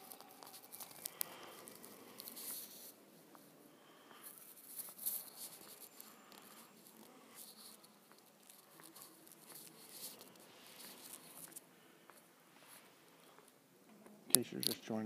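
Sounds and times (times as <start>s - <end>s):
phone rustling while walking: 0.0s - 15.0s.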